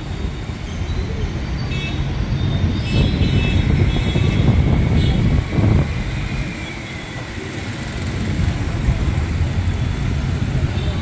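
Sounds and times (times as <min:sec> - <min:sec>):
bus rumbling: 0:00.0 - 0:11.0
road traffic: 0:00.0 - 0:11.0.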